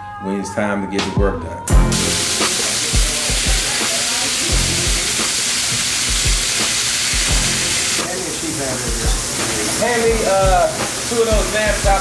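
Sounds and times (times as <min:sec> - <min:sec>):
background music with bass beat: 0:00.9 - 0:08.2, 0:08.9 - 0:12.0
chicken sizzling on a griddle: 0:02.0 - 0:12.0.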